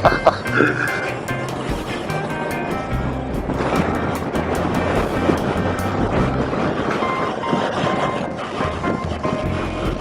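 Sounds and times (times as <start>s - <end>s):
wind noise over helmet microphone: 0.0s - 10.0s.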